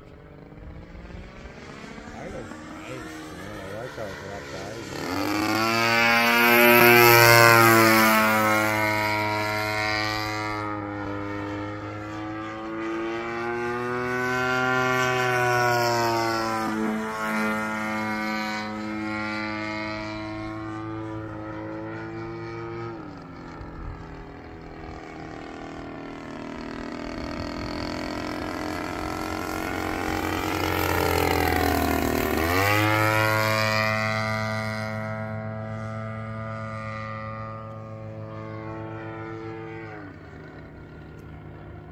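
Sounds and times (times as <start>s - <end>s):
model plane motor buzzing: 0.0s - 41.9s.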